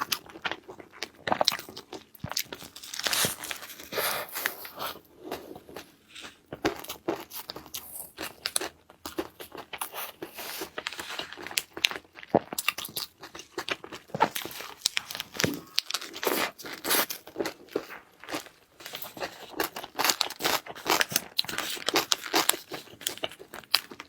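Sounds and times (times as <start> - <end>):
person chewing crunchy food: 0.0 - 24.0.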